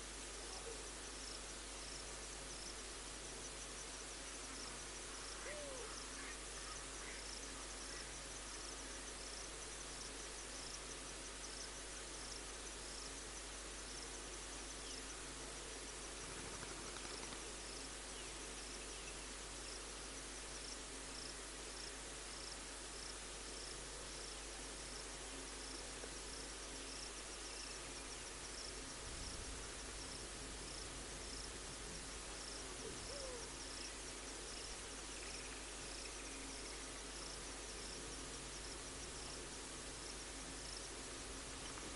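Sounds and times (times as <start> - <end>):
insect chirping: 0.0 - 41.9
low hiss: 0.0 - 41.9.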